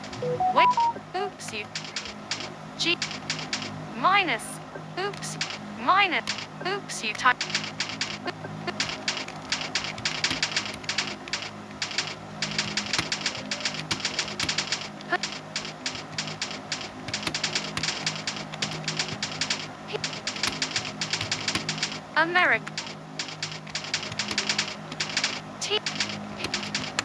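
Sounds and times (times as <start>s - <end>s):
keyboard typing: 0.0s - 3.8s, 5.1s - 5.6s, 6.2s - 6.5s, 7.1s - 22.0s, 22.6s - 27.0s.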